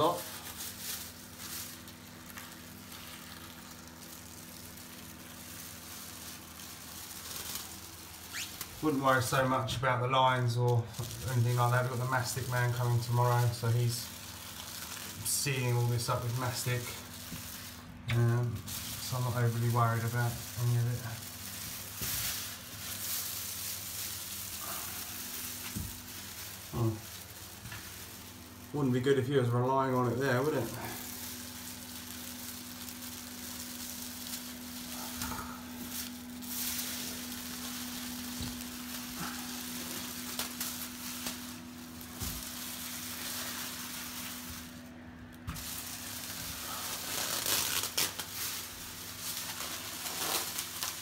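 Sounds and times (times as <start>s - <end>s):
low steady hum: 0.0s - 51.0s
masking tape peeling crackle: 0.0s - 51.0s
plastic sheeting rustling: 0.0s - 51.0s.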